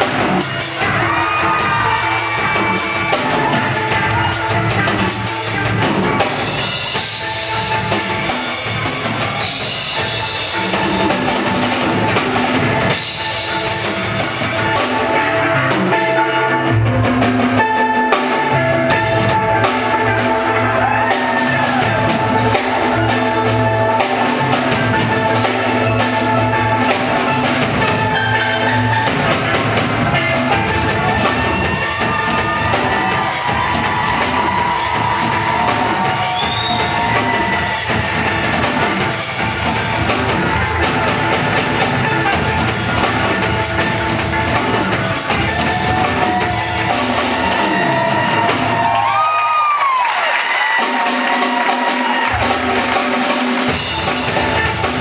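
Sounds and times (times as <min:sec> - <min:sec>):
bass line: 0:00.0 - 0:49.2
drum kit beat: 0:00.0 - 0:55.0.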